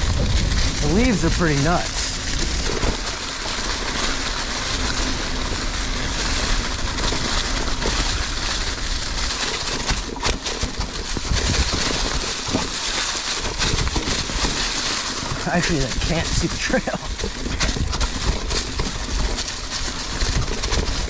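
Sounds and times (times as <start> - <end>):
wind on microphone: 0.0 - 12.8, 13.4 - 21.0
bike knocking and rattling: 0.0 - 21.0
bike tyres rolling over leaves: 0.0 - 21.0.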